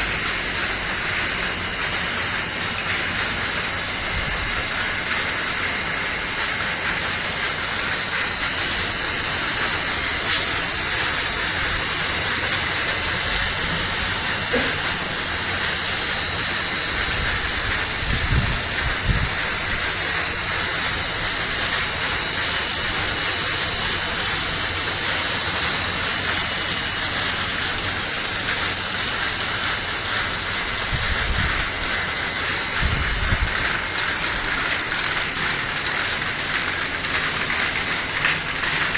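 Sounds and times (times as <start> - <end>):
spray jets hissing: 0.0 - 38.9.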